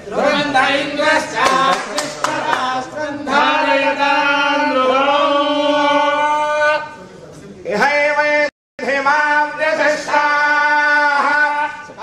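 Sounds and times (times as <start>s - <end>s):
men chanting mantras: 0.0s - 12.0s.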